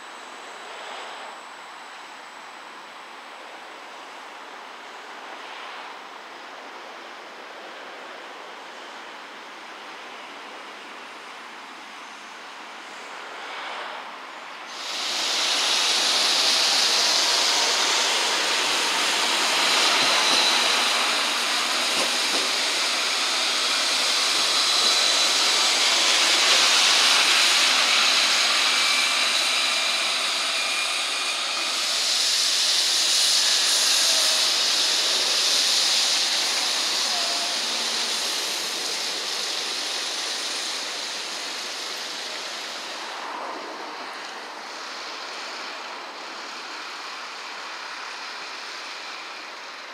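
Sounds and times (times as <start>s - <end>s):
tram wheels hissing on wet track: 0.0s - 49.9s.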